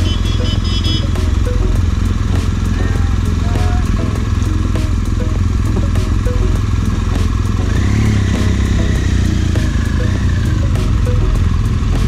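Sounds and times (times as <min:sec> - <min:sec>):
motorcycle engine running: 0:00.0 - 0:12.0
other motorcycles running: 0:00.0 - 0:12.0.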